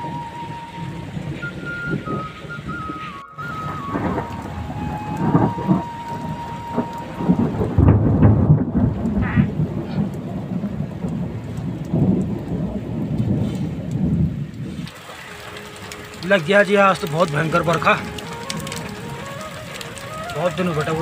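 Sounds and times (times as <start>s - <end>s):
heavy rain falling: 0.0s - 21.0s
thunder rumbling: 0.0s - 21.0s.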